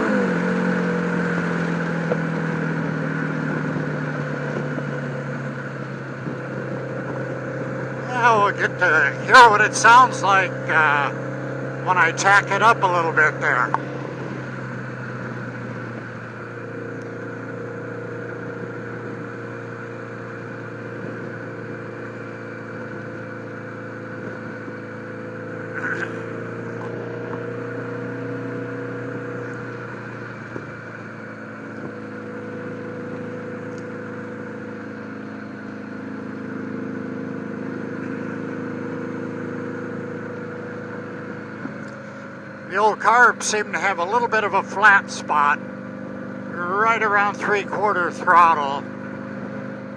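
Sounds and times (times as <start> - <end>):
motorcycle engine under throttle: 0.0 - 49.9.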